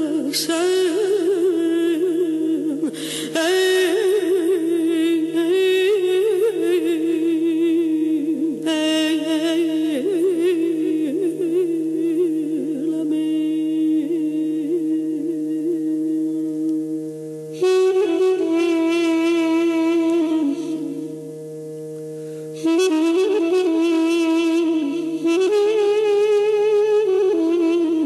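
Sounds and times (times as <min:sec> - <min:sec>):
wind instrument melody with trills: 0:03.3 - 0:28.0.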